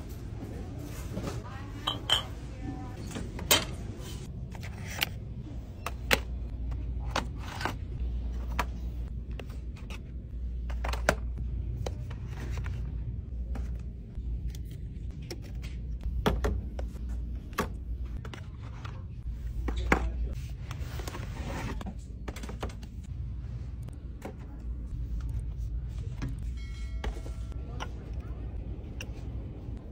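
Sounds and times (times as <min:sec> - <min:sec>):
low store ambience rumble: 0:00.0 - 0:29.9.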